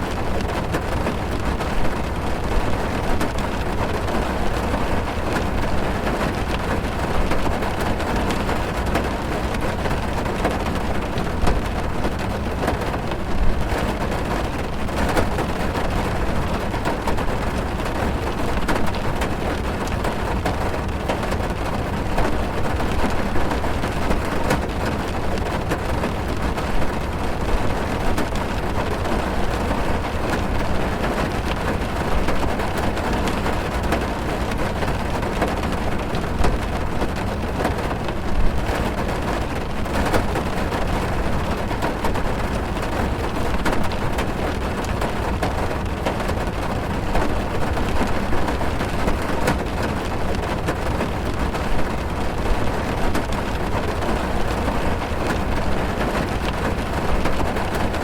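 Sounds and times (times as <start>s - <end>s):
heavy rain drumming on car roof: 0.0s - 58.0s.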